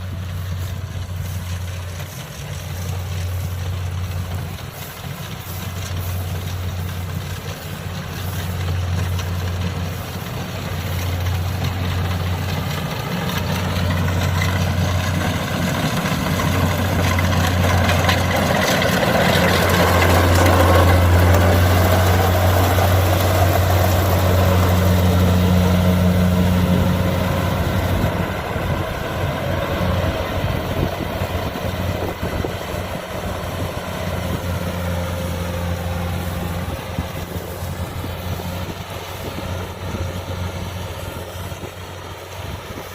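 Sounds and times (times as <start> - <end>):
diesel engine hum: 0.0 - 42.9.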